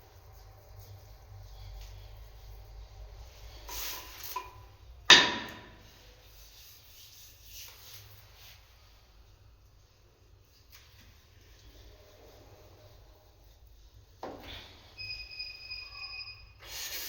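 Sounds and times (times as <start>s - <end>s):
rubbing brushing sound: 0.0s - 4.8s, 5.5s - 15.5s.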